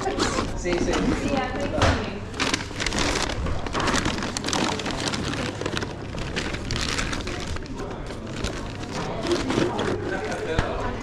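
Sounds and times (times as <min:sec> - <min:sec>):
rustling and crinkling of foil bag: 0:00.0 - 0:11.0.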